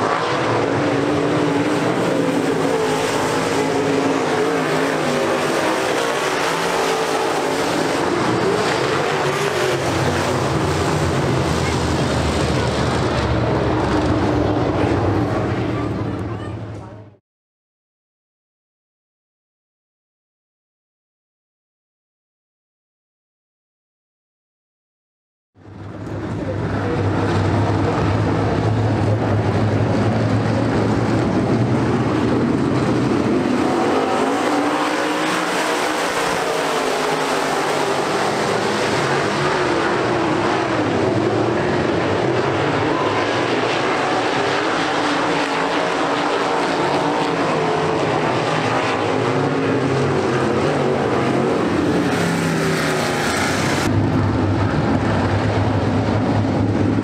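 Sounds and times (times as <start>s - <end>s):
race car engines: 0.0s - 17.2s, 25.6s - 57.0s.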